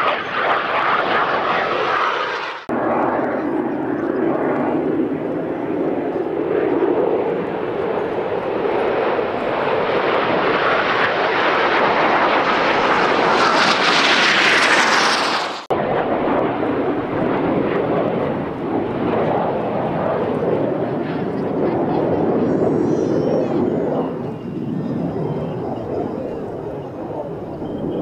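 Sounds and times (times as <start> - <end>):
jet engine noise: 0.0 - 28.0.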